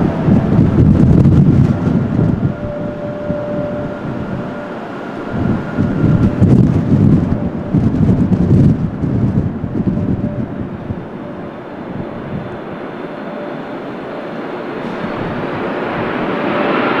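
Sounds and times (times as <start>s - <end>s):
jet airliner engine noise: 0.0s - 17.0s.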